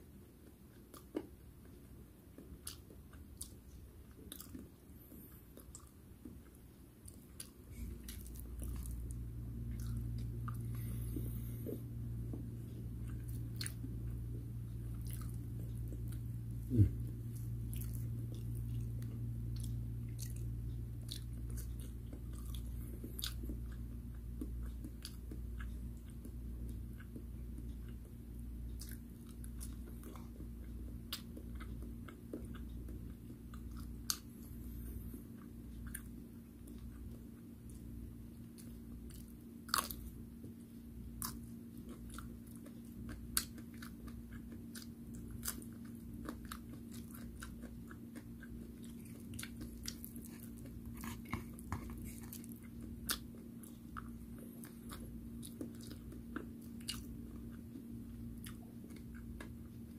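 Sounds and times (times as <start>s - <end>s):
chewing and crunching food: 0.1s - 59.9s
low hum: 7.6s - 59.9s.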